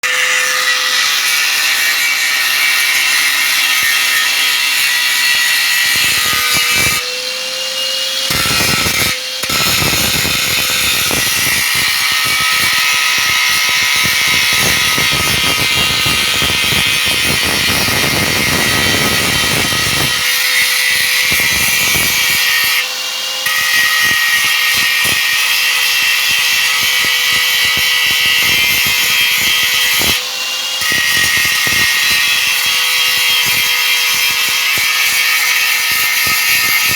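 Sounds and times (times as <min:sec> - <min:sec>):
electric grinder grinding metal: 0:00.0 - 0:36.9.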